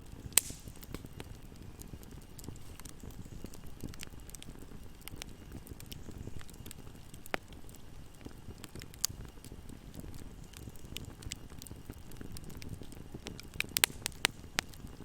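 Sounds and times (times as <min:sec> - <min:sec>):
fire popping sharply: 0:00.0 - 0:15.0
wood fire crackling: 0:00.0 - 0:15.0.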